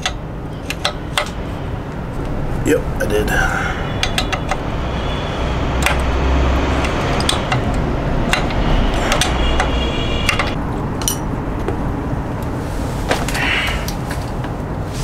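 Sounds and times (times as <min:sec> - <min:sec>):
steady low rumble: 0:00.1 - 0:15.0.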